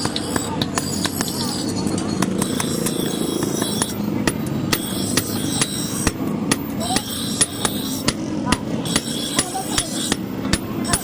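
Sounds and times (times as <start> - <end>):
hammer striking metal: 0.0 - 11.0
metallic ringing: 0.0 - 11.0
steady low rumble: 0.1 - 10.8.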